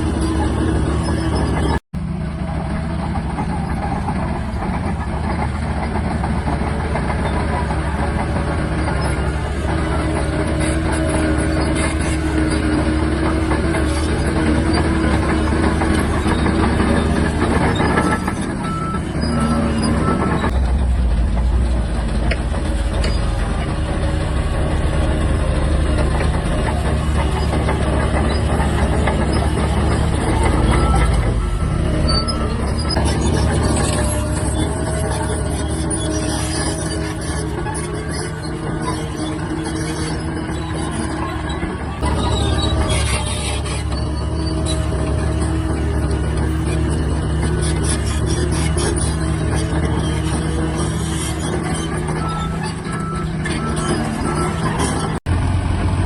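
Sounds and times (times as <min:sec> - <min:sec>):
bulldozer engine running: 0:00.0 - 0:56.0.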